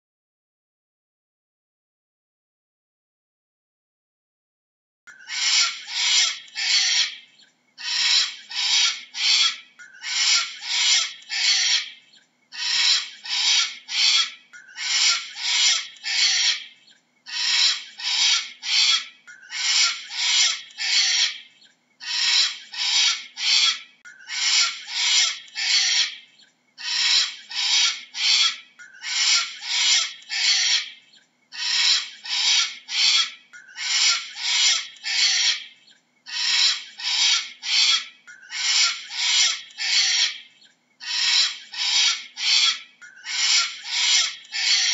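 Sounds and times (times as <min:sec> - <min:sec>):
cockatoo screeching: 0:05.2 - 0:07.2, 0:07.8 - 0:16.7, 0:17.3 - 0:26.2, 0:26.8 - 0:35.7, 0:36.3 - 0:44.9.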